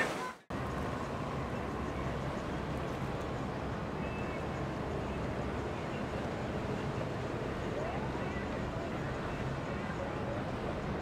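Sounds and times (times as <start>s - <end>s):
boat engines humming: 0.0s - 11.0s.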